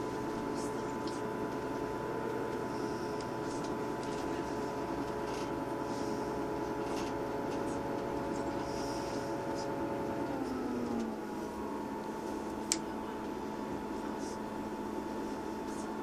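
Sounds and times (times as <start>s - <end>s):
train diesel engine whine: 0.0s - 16.0s.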